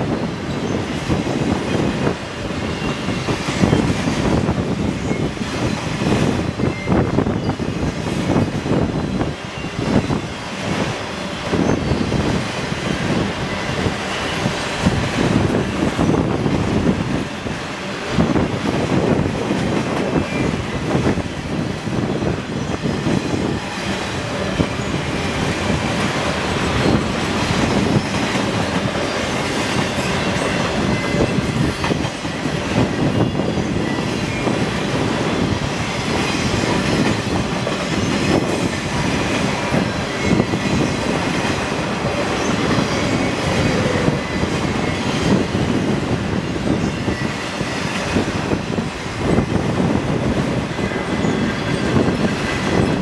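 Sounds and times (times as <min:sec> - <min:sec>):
freight train wheels on rails: 0:00.0 - 0:53.0.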